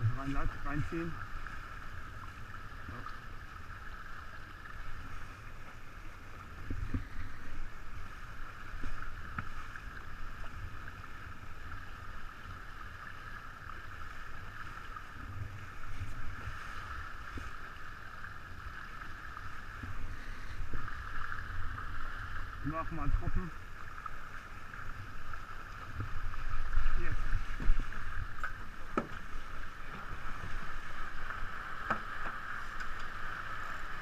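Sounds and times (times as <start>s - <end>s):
water rushing along hull: 0.0s - 34.0s.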